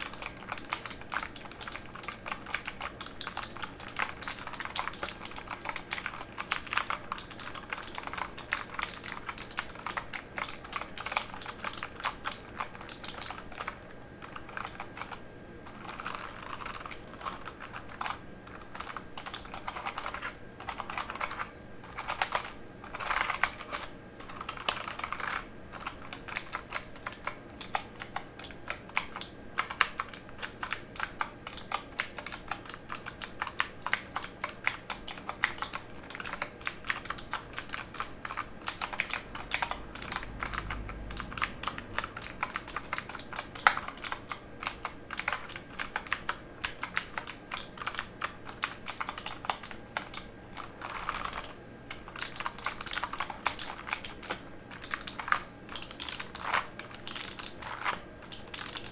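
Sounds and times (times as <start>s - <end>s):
mechanical keyboard typing: 0.0s - 58.9s.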